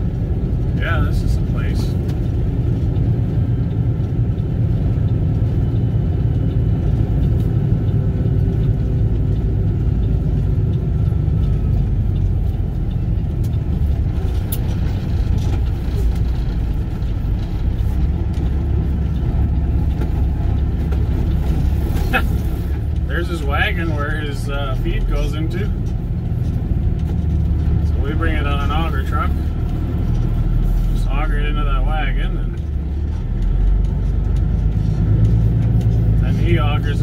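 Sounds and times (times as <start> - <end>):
truck driving on gravel: 0.0 - 37.0.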